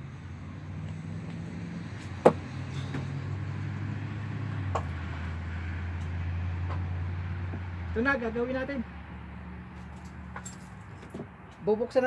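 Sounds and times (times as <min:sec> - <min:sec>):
idling engine hum: 0:00.0 - 0:11.1.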